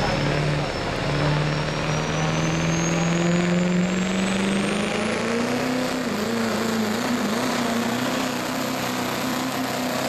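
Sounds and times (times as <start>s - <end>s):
diesel engine under load: 0.0s - 10.0s.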